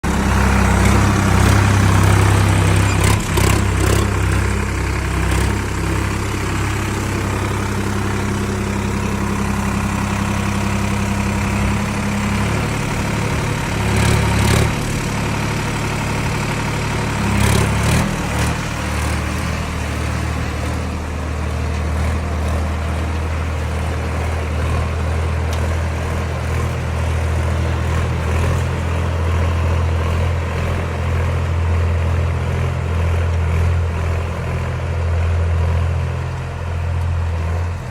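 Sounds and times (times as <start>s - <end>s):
engine rattles: 0.0s - 37.9s
tractor diesel engine running: 0.0s - 37.9s.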